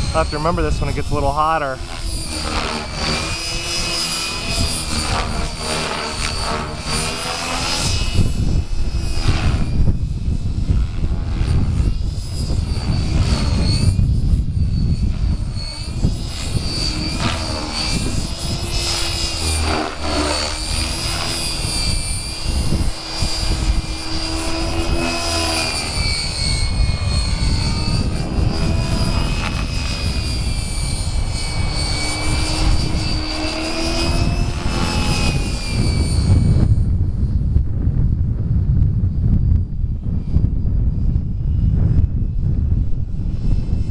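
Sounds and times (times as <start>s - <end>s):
rc helicopter motor whine: 0.0s - 43.9s
rotor hum: 0.0s - 43.9s.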